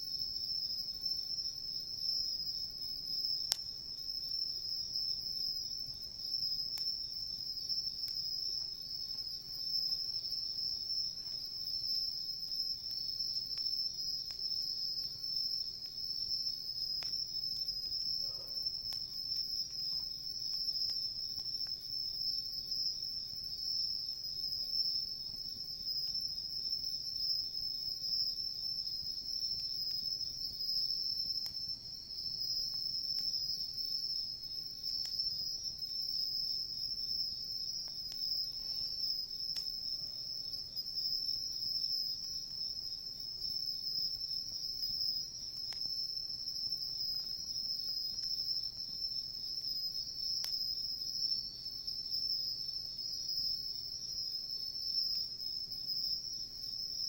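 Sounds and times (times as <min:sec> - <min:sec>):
crickets chirping: 0:00.0 - 0:57.0
faint campfire pops: 0:00.4 - 0:51.4.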